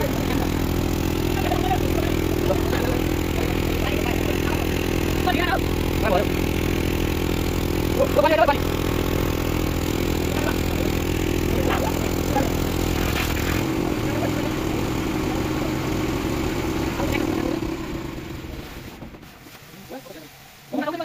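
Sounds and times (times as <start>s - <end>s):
tractor diesel engine running: 0.0s - 19.2s.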